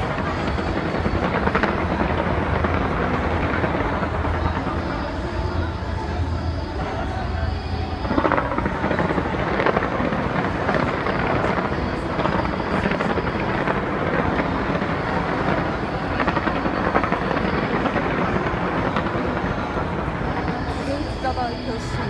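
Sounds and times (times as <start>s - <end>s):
fireworks bursts rumbling: 0.0s - 22.0s
small firework cracks: 0.0s - 22.0s.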